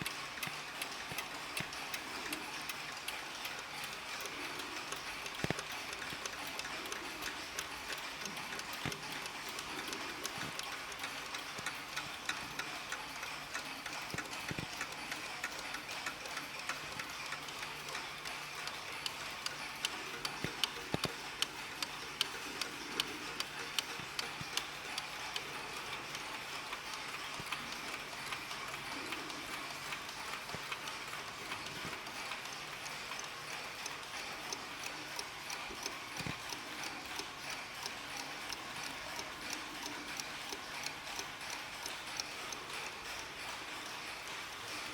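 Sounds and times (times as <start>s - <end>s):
mantel clocks ticking: 0.0s - 44.9s.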